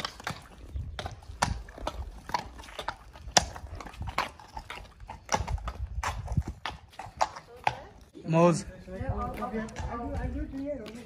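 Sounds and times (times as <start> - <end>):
horse hooves clopping on concrete: 0.0 - 11.0.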